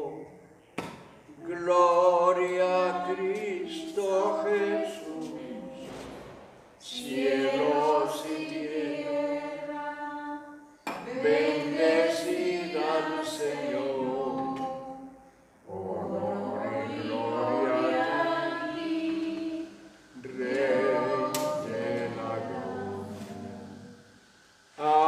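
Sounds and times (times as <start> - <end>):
group singing a hymn: 0.0 - 25.0.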